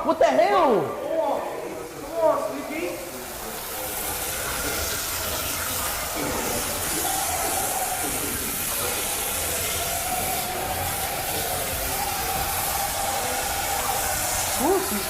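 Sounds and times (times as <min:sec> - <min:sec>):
water spraying from hose: 0:00.6 - 0:15.0.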